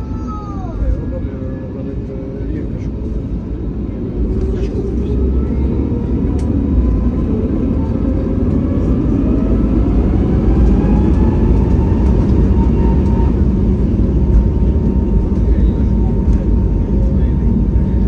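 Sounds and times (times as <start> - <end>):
faint rising engine whine: 0.0 - 18.0
jet engines rumbling in cabin: 0.0 - 18.0.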